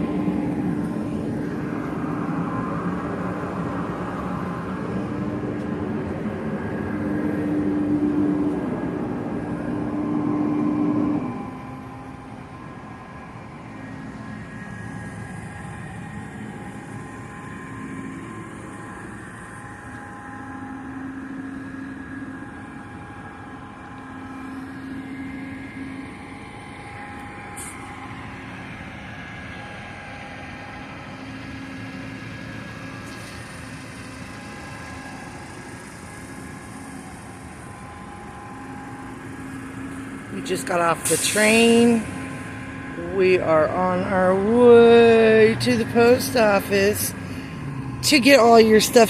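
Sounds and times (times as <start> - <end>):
train humming tones: 0.0 - 49.0
train rumbling: 0.0 - 49.0.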